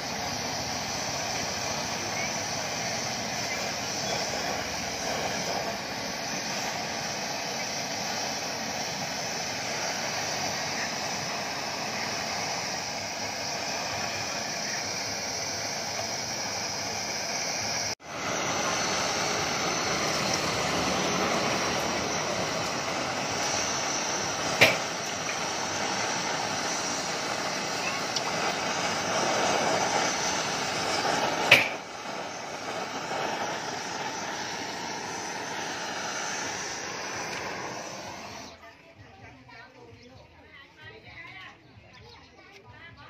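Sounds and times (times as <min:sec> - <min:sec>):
blowtorch flame hissing: 0:00.0 - 0:38.6.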